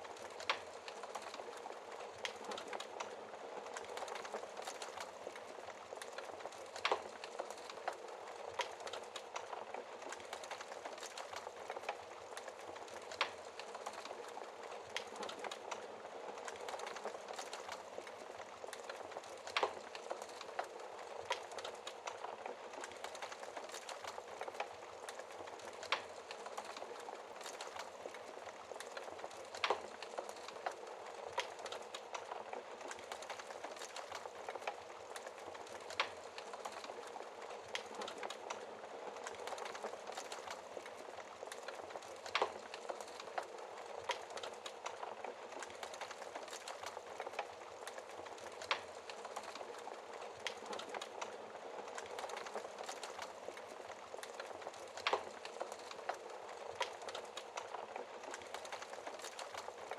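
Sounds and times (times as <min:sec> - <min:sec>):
logs crackling and popping: 0:00.0 - 0:59.9.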